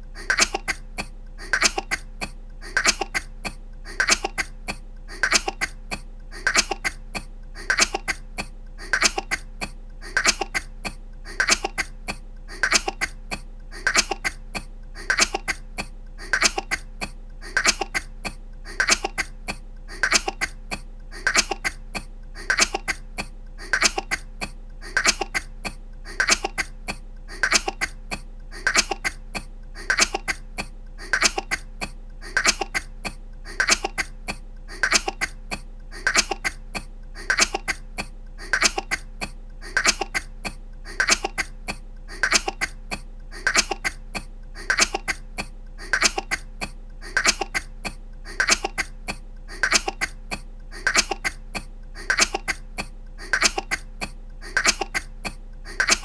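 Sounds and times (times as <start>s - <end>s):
woman coughing: 0.2s - 56.0s.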